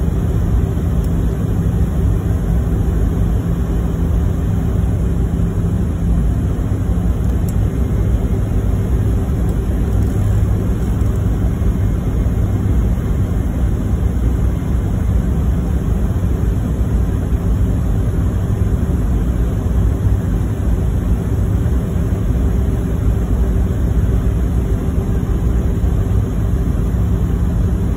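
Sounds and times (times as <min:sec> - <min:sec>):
airliner engines rumbling: 0:00.0 - 0:27.9.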